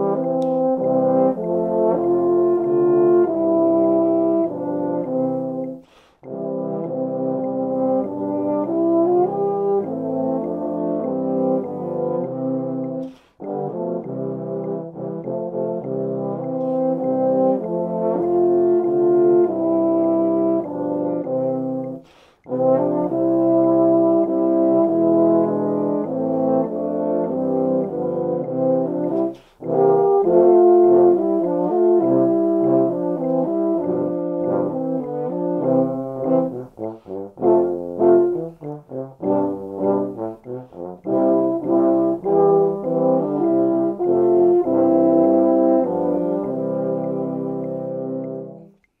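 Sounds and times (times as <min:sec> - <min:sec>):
baritone horns playing a hymn: 0:00.0 - 0:48.8.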